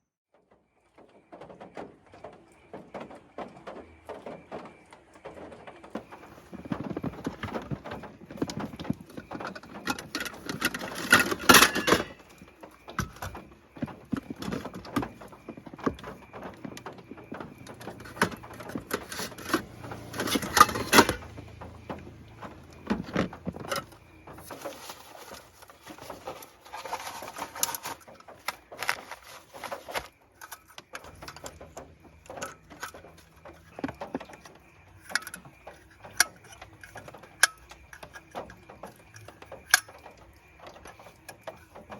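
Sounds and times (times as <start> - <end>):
objects clicking and knocking: 1.0 - 41.9
rustling: 1.1 - 41.9.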